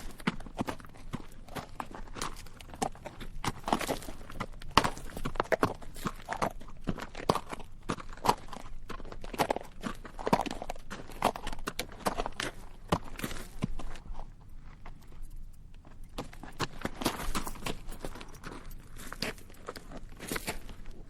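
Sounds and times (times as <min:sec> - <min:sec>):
horse hooves on rocky dirt: 0:00.0 - 0:21.0.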